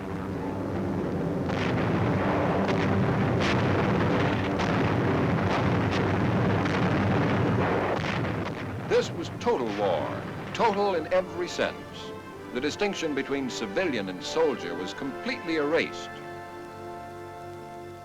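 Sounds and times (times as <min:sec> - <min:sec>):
explosions and artillery fire: 0:00.0 - 0:14.7
sharp cracks: 0:00.0 - 0:18.0.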